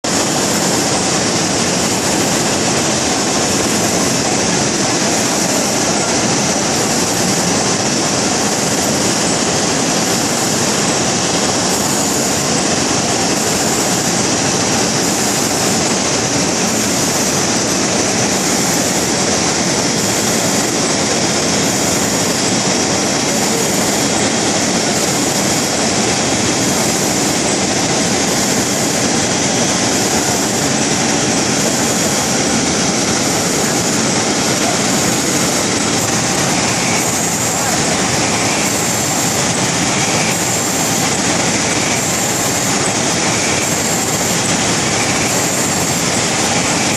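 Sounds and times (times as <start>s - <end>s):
packaging machine running: 0.0s - 46.9s.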